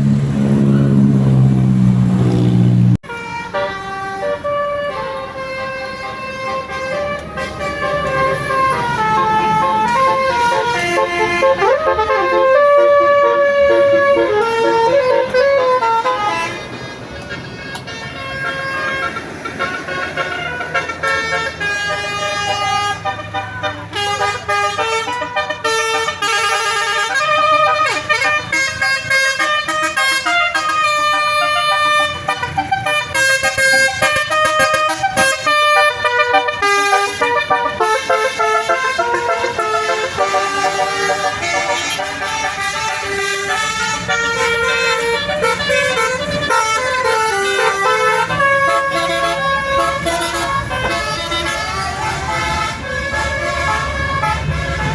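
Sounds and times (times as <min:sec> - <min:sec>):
bus horns playing melodies: 0:00.0 - 0:54.9.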